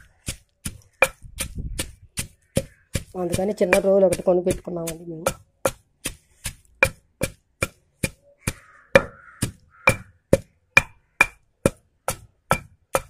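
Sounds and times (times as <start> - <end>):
stone pestle pounding in mortar: 0.0 - 13.0.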